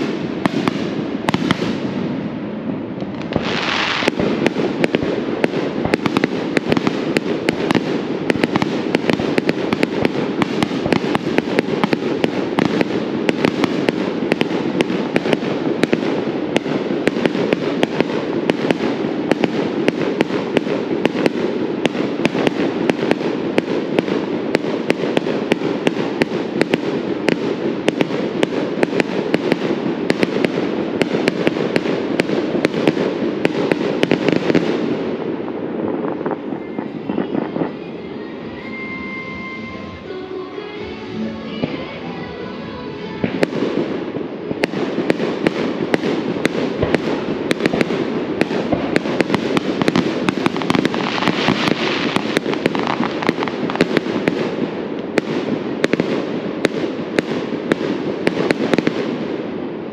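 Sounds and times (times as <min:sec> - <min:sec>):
hissing firework burst: 0:00.0 - 0:37.9, 0:43.2 - 0:59.4
fireworks bursting and crackling: 0:00.0 - 0:59.9.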